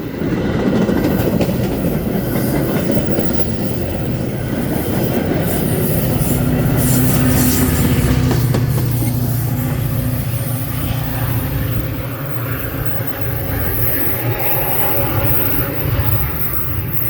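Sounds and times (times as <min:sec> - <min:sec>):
train wheels clattering on rails: 0:00.0 - 0:17.0
wheel squeal: 0:01.9 - 0:17.0.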